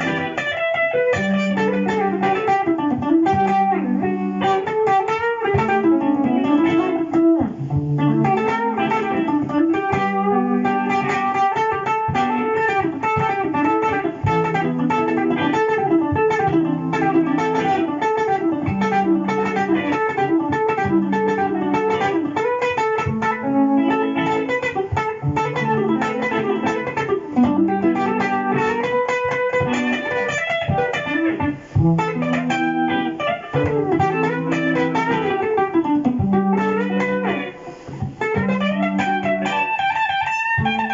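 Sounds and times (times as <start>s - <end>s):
looped electric guitar notes: 0.0s - 40.9s
picked guitar melody: 0.0s - 40.9s.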